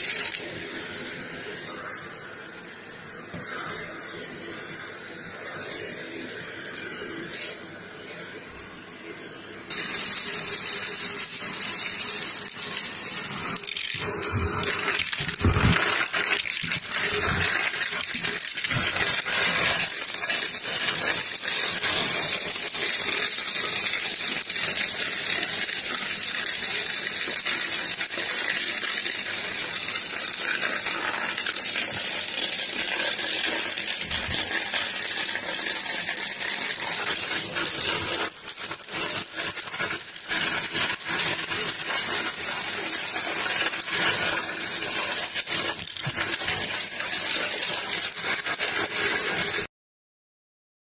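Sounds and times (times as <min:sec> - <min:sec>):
vacuum cleaner running over carpet: 0:00.0 - 0:49.7.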